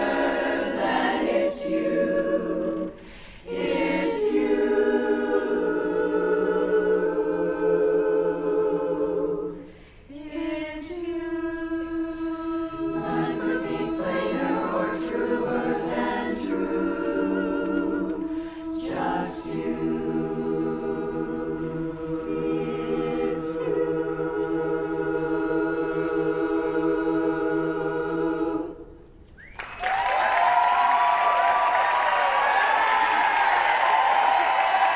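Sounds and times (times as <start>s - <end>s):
women singing a cappella: 0.0s - 29.1s.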